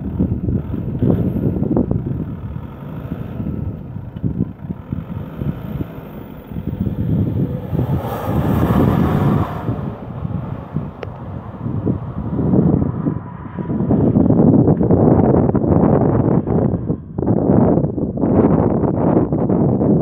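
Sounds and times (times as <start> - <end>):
car engine and exhaust: 0.0 - 20.0.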